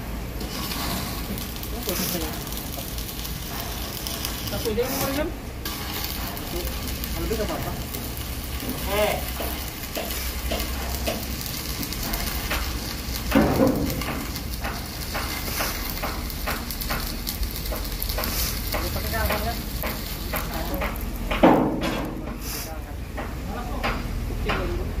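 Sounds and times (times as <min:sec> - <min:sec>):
arc welding crackling sizzle: 0:00.0 - 0:25.0.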